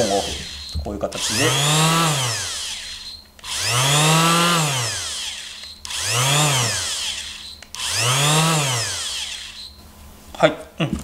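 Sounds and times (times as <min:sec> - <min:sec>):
electric sander motor whine: 0:00.0 - 0:09.8.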